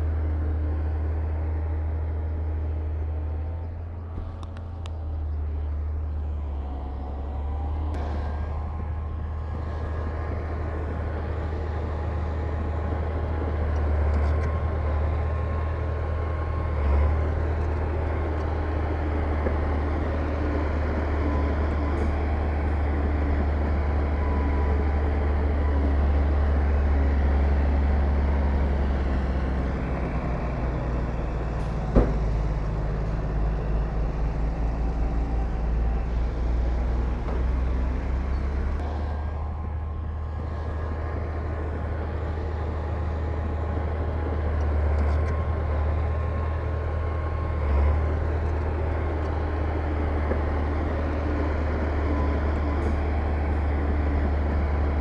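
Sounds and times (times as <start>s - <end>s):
diesel machinery engine rumble: 0.0s - 55.0s.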